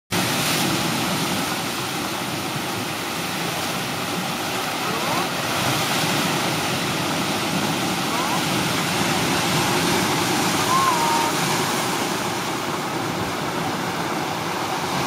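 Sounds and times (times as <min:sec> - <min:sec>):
waves washing on pebble beach: 0:00.2 - 0:15.0.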